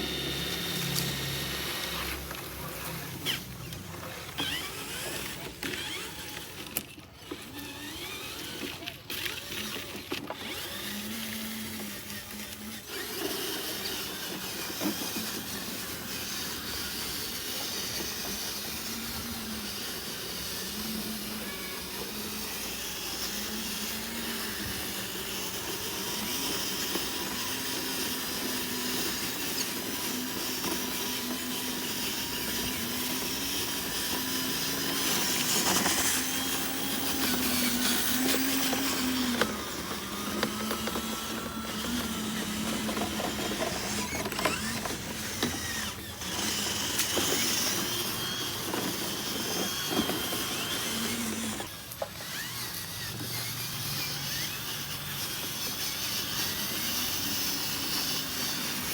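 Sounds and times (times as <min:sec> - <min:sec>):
small electric motors whirring: 0:00.0 - 0:58.9.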